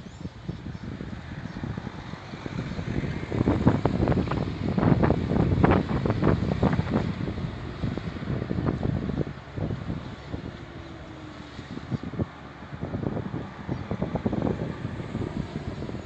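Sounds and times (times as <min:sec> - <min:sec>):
distant harvester and tractor drone: 0:00.0 - 0:16.0
wind buffeting microphone: 0:00.0 - 0:16.0.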